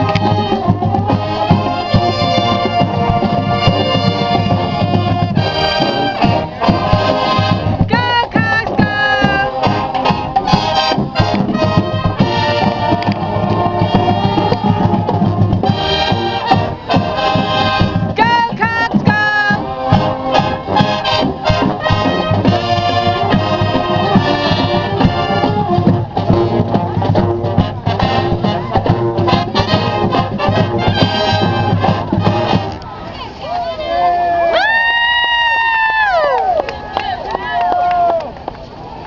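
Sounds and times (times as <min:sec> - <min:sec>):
sliding brass phrase: 0:00.0 - 0:32.8
marching band playing: 0:00.0 - 0:34.1.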